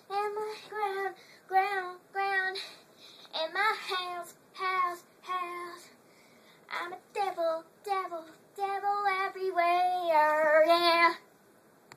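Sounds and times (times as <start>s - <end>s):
girl singing: 0.0s - 6.0s, 6.6s - 11.3s.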